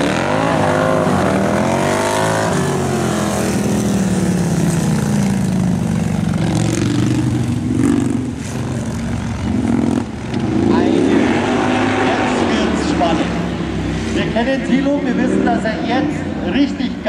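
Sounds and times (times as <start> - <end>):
motorcycles revving past: 0.0 - 15.5.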